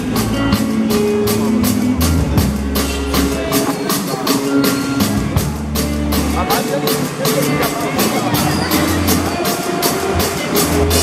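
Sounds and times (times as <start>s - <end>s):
drum kit beat: 0.0s - 11.0s
live band playing: 0.0s - 11.0s.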